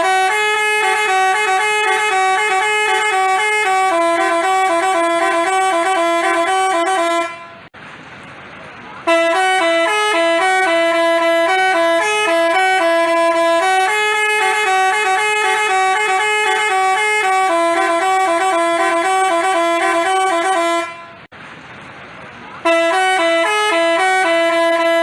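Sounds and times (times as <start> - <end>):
bus horn playing melody: 0.0 - 7.7, 9.0 - 21.3, 22.6 - 25.0.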